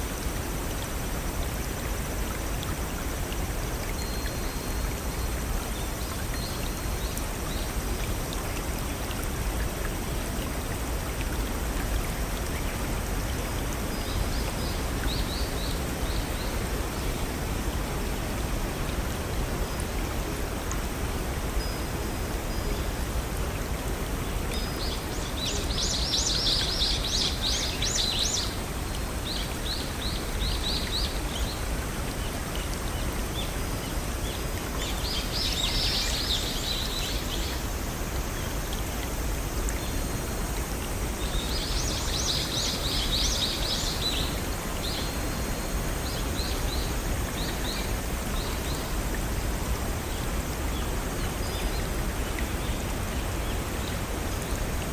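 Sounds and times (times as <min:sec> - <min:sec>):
brook rushing over small waterfalls: 0:00.0 - 0:54.9.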